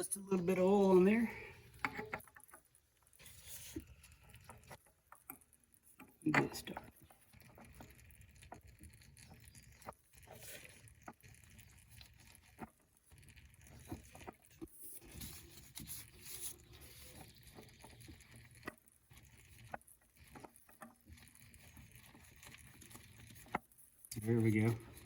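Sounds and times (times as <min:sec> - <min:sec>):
oil filter clicking and scraping: 0:00.0 - 0:25.0.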